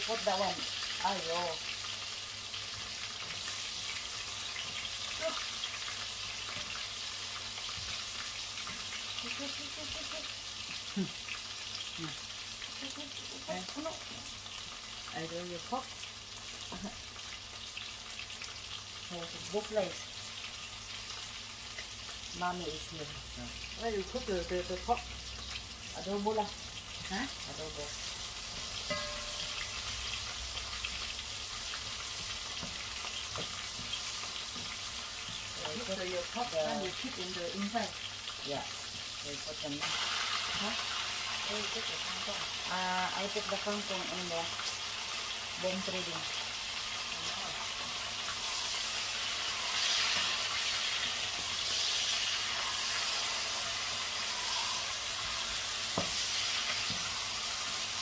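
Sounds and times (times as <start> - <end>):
garlic and onion sizzling in oil: 0.0 - 58.0.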